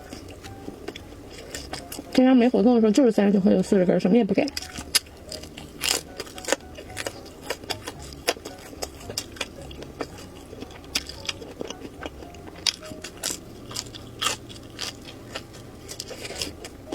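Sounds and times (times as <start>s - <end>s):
person chewing crunchy sausages: 0.0s - 2.2s, 4.4s - 16.9s.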